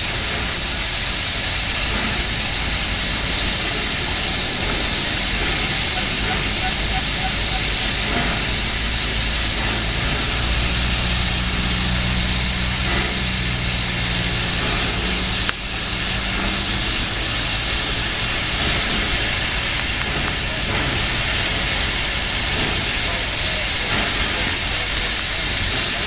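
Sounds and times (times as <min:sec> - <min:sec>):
low hum: 0:00.0 - 0:20.9
steam hissing: 0:00.0 - 0:26.0.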